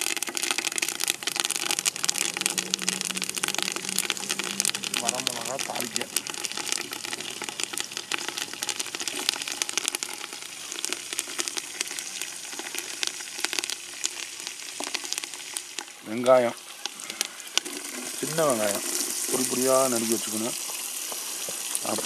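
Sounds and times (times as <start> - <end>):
oil crackles and pops: 0.0 - 22.0
spices sizzling in hot oil: 0.0 - 22.0.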